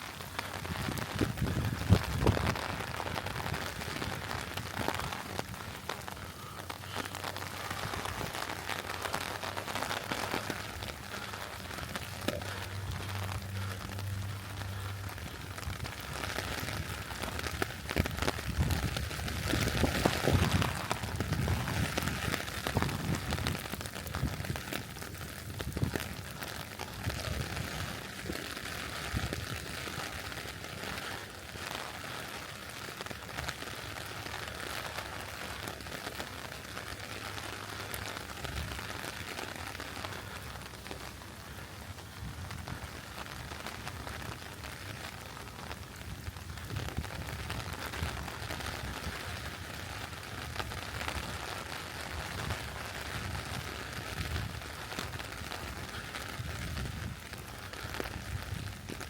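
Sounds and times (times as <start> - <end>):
rain on leaves and ground: 0.0 - 59.0.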